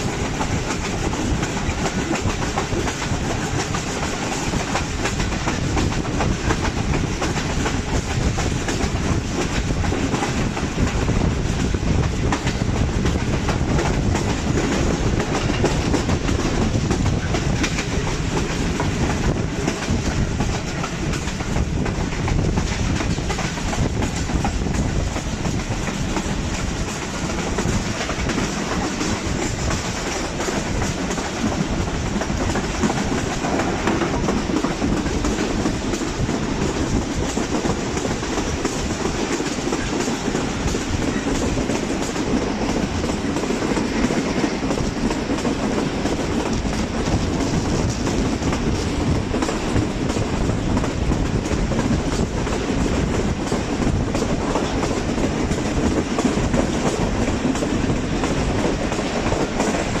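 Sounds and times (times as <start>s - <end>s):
train wheels clattering on rails: 0.0s - 60.0s.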